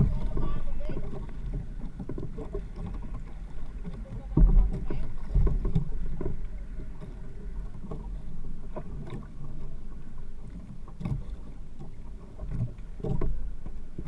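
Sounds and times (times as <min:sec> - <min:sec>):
water lapping against boat hull: 0:00.0 - 0:14.0
wind rumbling on microphone: 0:00.0 - 0:14.0.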